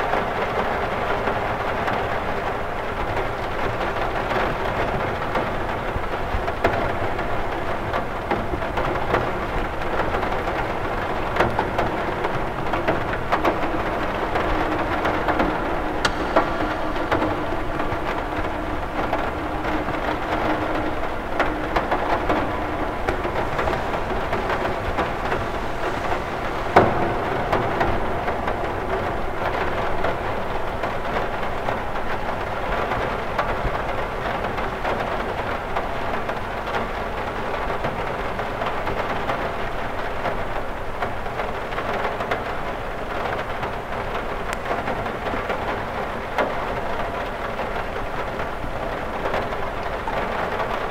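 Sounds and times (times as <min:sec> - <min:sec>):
rain on a window: 0:00.0 - 0:50.9.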